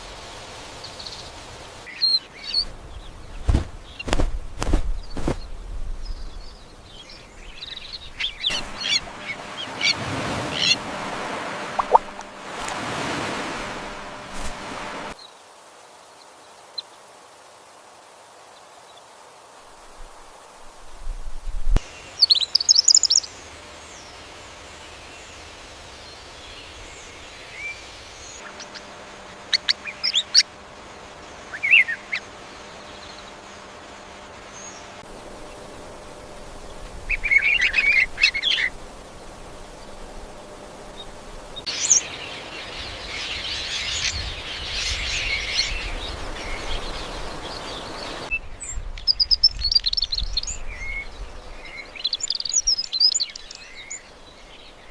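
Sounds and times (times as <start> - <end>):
background hiss: 0.0 - 54.9
outdoor noise: 0.0 - 54.9
birds chirping: 0.7 - 15.2, 21.8 - 30.5, 31.1 - 54.9.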